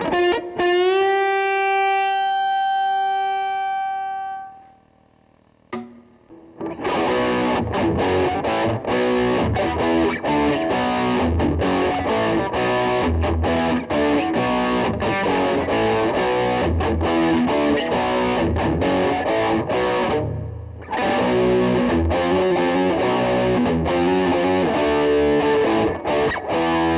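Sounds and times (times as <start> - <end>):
distorted electric guitar riff: 0.0 - 4.8, 5.8 - 26.9.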